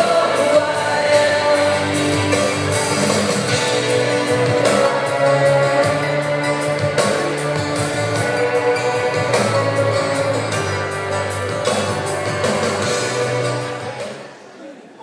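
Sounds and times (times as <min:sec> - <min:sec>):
song with a steady beat: 0:00.0 - 0:14.4.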